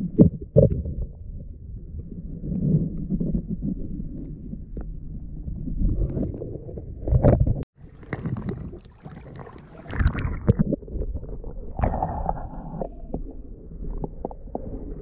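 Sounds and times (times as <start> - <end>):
low underwater rumbling: 0.0 - 15.0
water sloshing and gurgling: 0.0 - 15.0.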